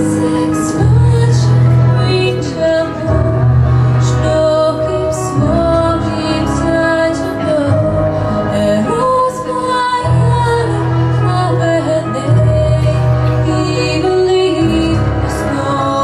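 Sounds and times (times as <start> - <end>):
girl singing into microphone: 0.0 - 3.4, 4.0 - 16.0
backing music: 0.0 - 16.0
bass holding long notes: 0.0 - 16.0.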